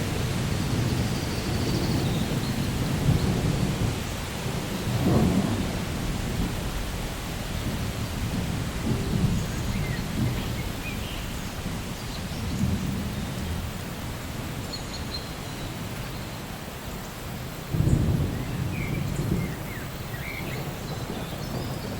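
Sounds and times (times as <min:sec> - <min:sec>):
low rolls of thunder: 0:00.0 - 0:14.6, 0:17.6 - 0:21.9
steady rain: 0:00.0 - 0:21.9.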